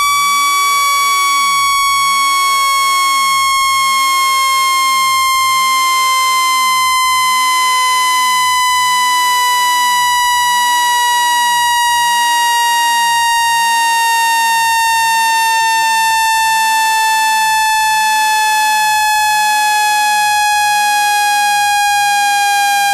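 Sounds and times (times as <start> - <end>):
buzzy high tone gliding down: 0.0 - 20.1.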